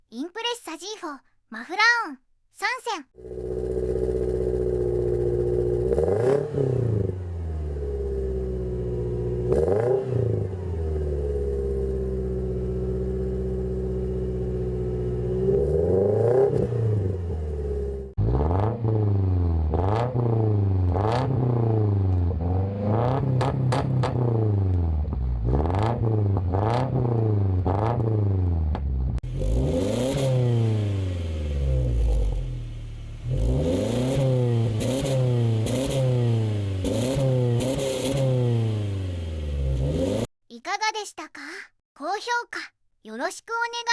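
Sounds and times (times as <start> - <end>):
car engine idling and revving: 3.2 - 40.3.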